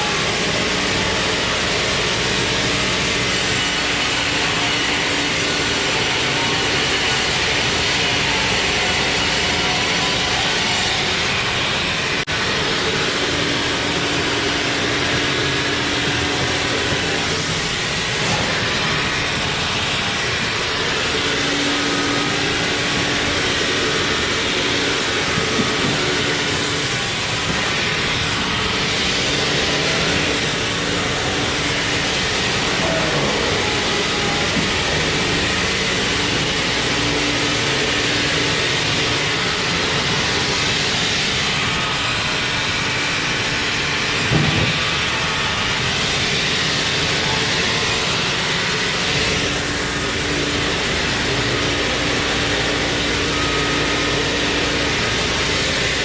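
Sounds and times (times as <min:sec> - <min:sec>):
constant mechanical hum: 0:00.0 - 0:56.0
sawmill machinery running: 0:00.0 - 0:56.0.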